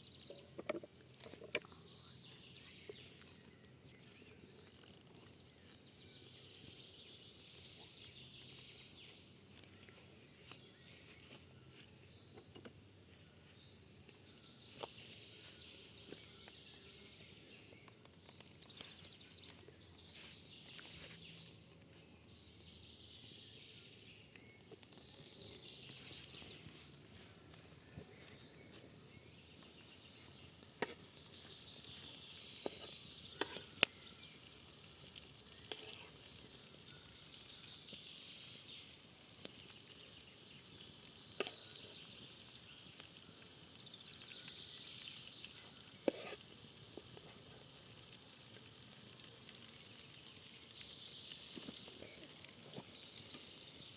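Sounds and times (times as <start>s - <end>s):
faint birds chirping: 0.0s - 53.9s.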